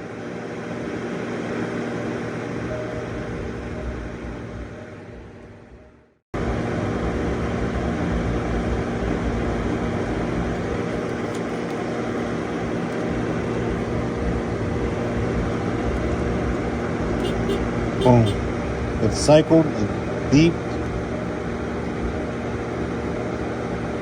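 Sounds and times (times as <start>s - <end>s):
car hum and airy rush: 0.0s - 24.0s.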